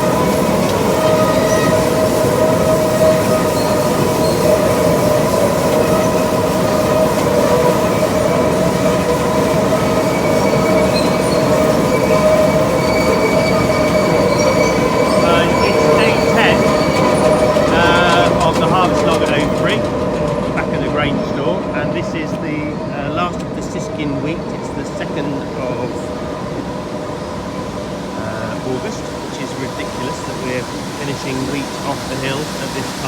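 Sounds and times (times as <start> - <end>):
heavy farm machinery running: 0.0 - 26.4, 27.5 - 33.0
steady whining tones: 0.0 - 33.0.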